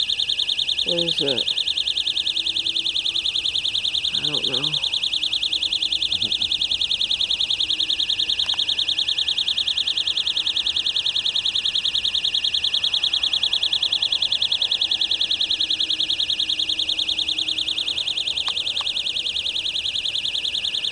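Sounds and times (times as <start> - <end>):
shrill rapid pulsing buzz: 0.0 - 20.9.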